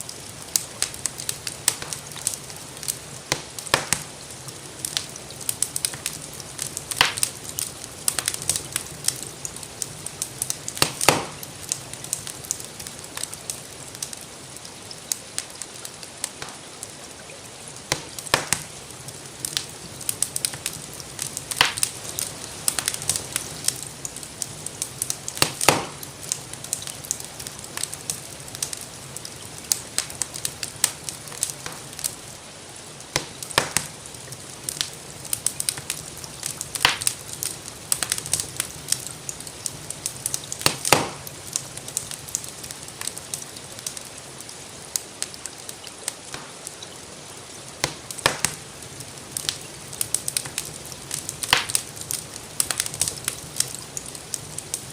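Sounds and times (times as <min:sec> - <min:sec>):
rain hissing: 0:00.0 - 0:54.9
wood fire crackling and popping: 0:00.0 - 0:54.9.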